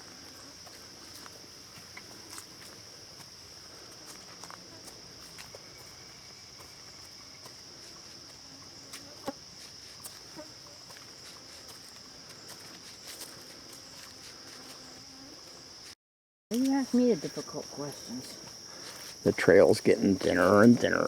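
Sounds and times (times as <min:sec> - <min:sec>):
footsteps of people walking: 0:00.0 - 0:21.0
insects droning: 0:00.0 - 0:21.0.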